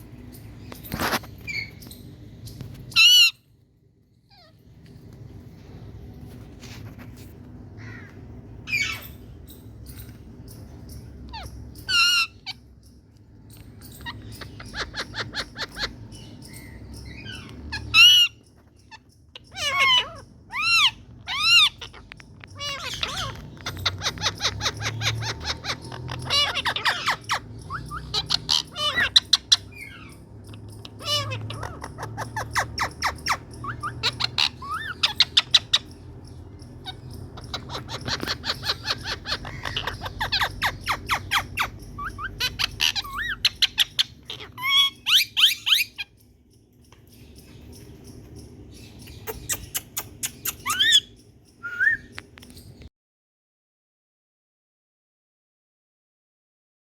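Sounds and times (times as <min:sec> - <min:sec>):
parakeets screeching: 0:00.0 - 0:52.6
parakeets chattering: 0:00.0 - 0:52.8.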